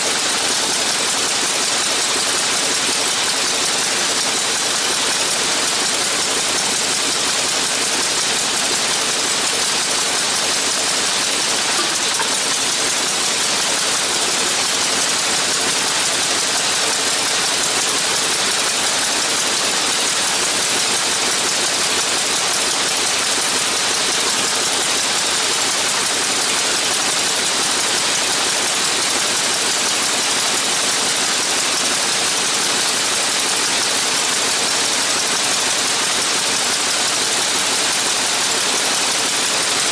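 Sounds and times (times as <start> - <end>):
radial engine and propeller running: 0.0 - 39.9.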